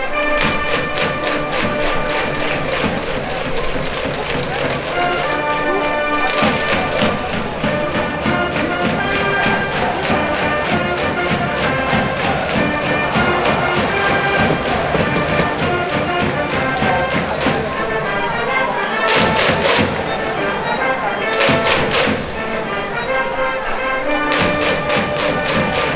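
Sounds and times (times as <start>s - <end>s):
brass playing held notes: 0.0s - 3.7s, 4.5s - 25.9s
drum beat: 0.2s - 18.0s, 19.0s - 20.2s, 21.4s - 22.4s, 24.3s - 25.9s.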